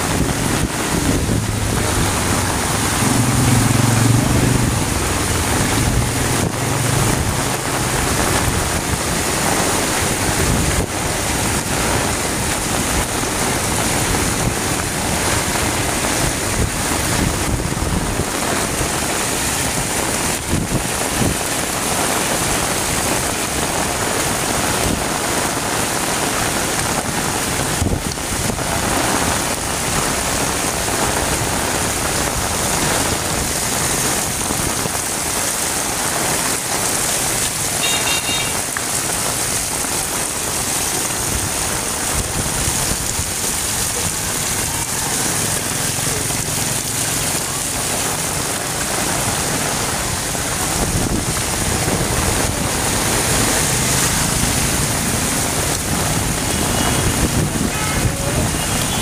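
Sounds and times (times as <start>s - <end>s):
heavy rain splashing into water: 0.0s - 59.0s.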